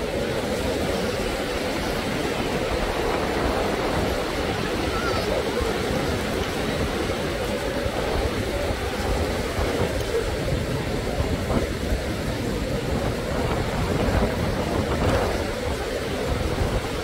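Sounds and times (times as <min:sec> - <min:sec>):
surf on the beach: 0:00.0 - 0:17.0
wind buffeting microphone: 0:00.0 - 0:17.0.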